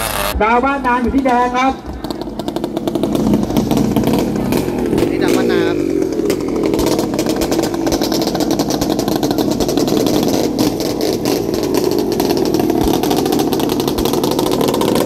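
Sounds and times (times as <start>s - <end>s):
boat engine running hard: 1.8s - 15.0s.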